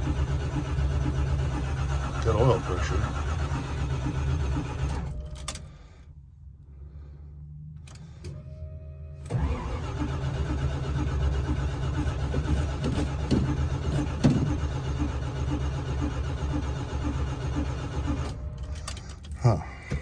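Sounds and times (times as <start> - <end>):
car engine cranking: 0.0 - 6.0, 7.6 - 20.0.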